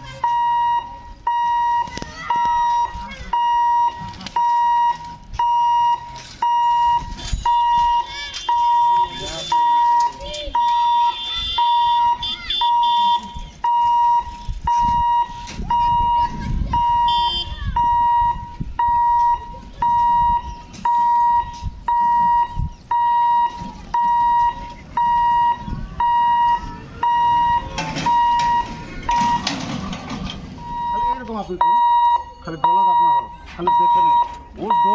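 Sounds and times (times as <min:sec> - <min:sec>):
level crossing hooter beeping: 0:00.0 - 0:34.9.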